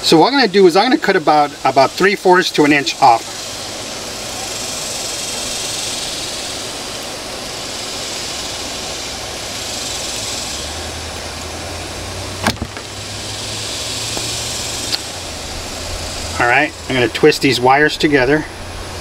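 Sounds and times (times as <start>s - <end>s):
background hiss: 0.0s - 19.0s
low hum: 3.2s - 19.0s.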